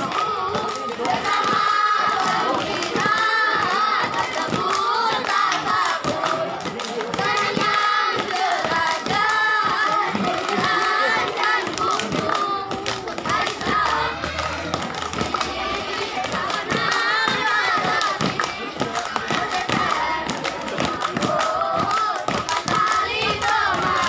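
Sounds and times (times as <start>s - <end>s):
children singing a chant: 0.0s - 24.0s
hand claps: 0.0s - 24.0s.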